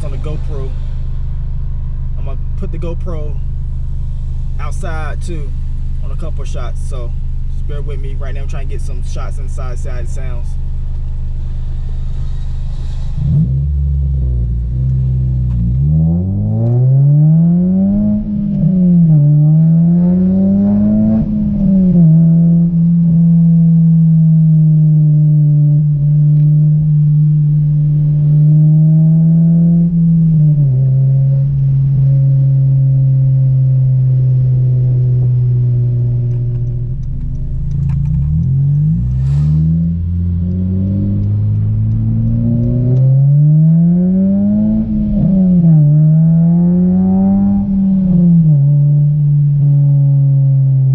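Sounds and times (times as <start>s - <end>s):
car engine accelerating from inside: 0.0s - 50.9s.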